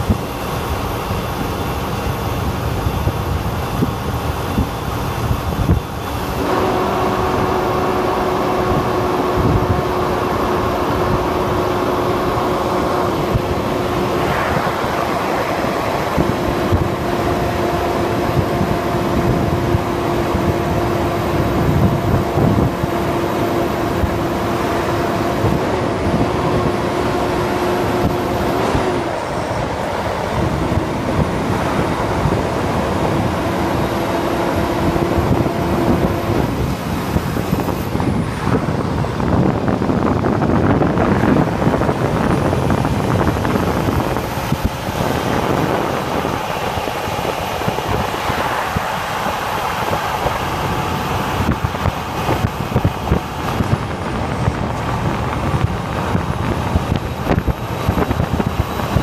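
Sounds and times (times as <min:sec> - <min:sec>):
highway traffic rumble: 0:00.0 - 0:59.0
steady hum: 0:00.0 - 0:59.0
vehicle passing by: 0:06.1 - 0:59.0.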